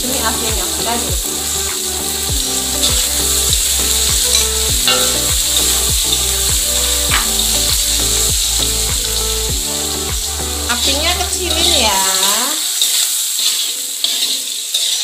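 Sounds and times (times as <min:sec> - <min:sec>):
squid sizzling in hot oil: 0:00.0 - 0:15.0
metal spatula scraping wok: 0:00.1 - 0:08.9, 0:10.4 - 0:15.0.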